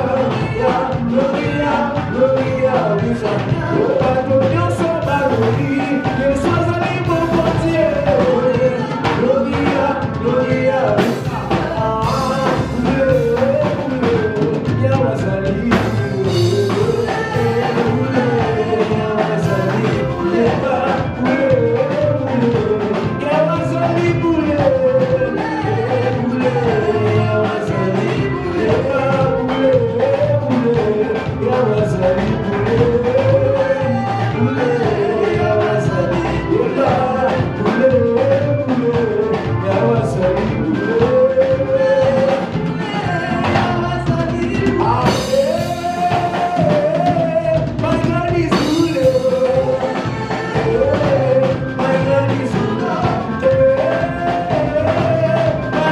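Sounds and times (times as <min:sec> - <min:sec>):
worship band with singer: 0:00.0 - 0:55.9.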